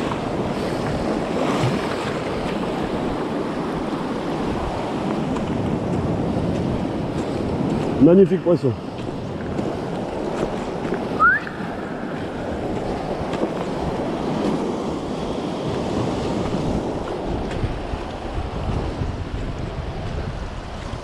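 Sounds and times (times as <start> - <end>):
surf washing among rocks: 0.0 - 21.0
wind buffeting microphone: 0.0 - 21.0.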